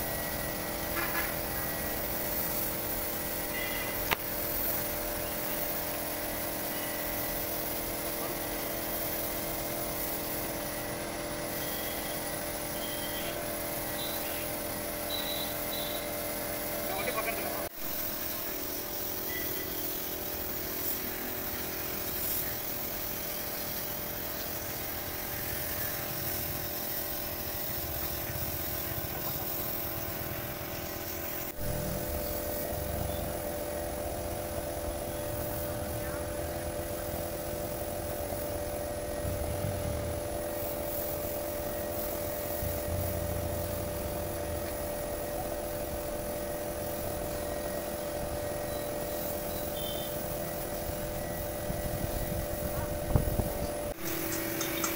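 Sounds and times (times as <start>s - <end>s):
compressor motor humming: 0.0s - 54.9s
spray gun hissing: 0.0s - 54.9s.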